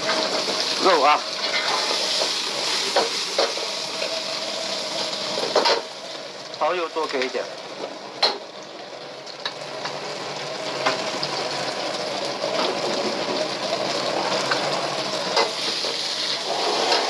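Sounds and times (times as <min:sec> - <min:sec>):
meat and peppers sizzling in a wok: 0:00.0 - 0:17.0.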